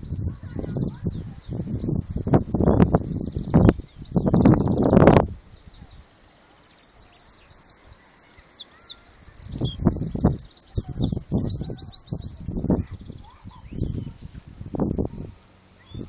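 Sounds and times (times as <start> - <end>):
songbird singing trills: 0.0 - 16.0.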